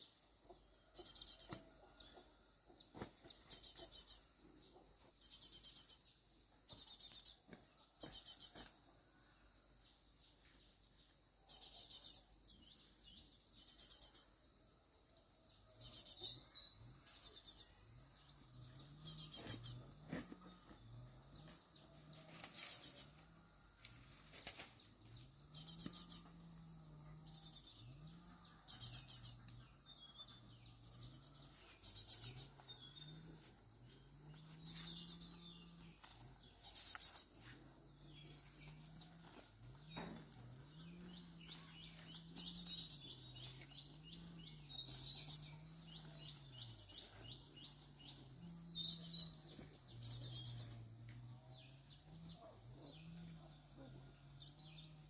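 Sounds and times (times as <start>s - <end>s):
insects buzzing: 0.0s - 53.2s
birds chirping: 0.8s - 8.8s, 15.5s - 23.4s, 24.2s - 55.0s.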